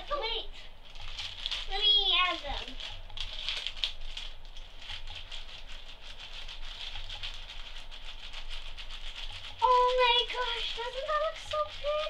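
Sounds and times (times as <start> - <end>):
foam beads pattering in plastic bag: 0.8 - 12.0
plastic bag crinkling: 0.8 - 12.0.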